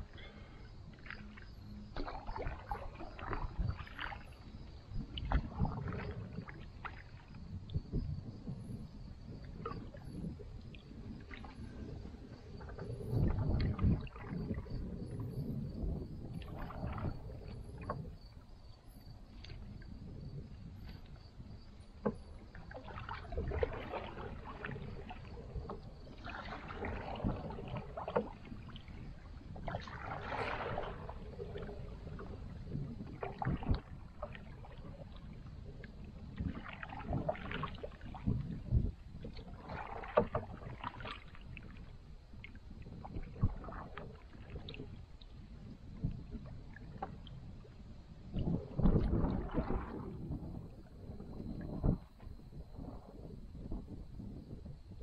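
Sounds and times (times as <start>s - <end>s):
paddles splashing in water: 0.0s - 53.3s.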